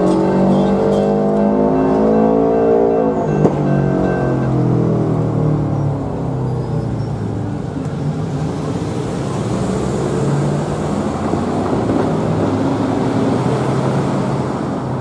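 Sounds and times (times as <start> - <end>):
vehicles pulling away: 0.0 - 15.0.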